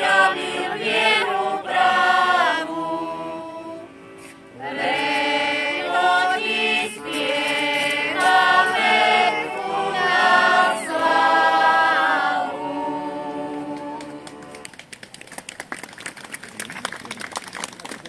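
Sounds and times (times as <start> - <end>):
choir singing: 0.0 - 14.6.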